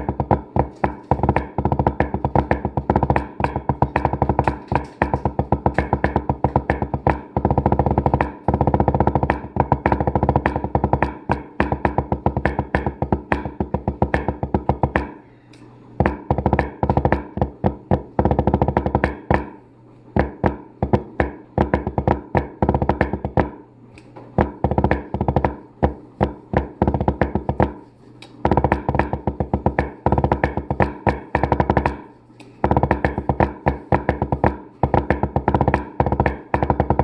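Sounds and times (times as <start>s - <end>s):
drumsticks playing rapid rolls on drum: 0.0s - 15.2s, 16.0s - 19.5s, 20.2s - 23.5s, 24.4s - 37.0s.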